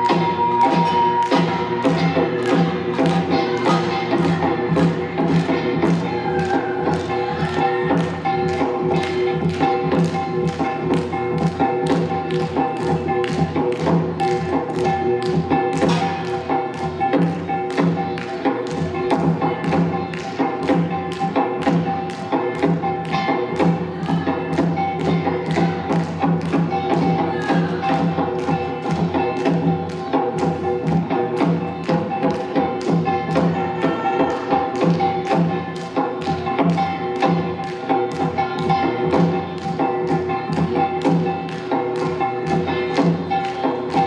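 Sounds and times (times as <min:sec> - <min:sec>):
sharp percussion strikes: 0:00.0 - 0:44.0.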